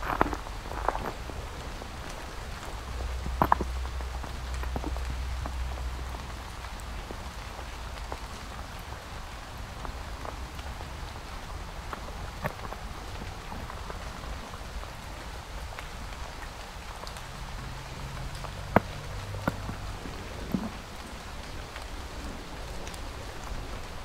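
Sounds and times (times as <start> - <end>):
light rain pattering: 0.0 - 24.0.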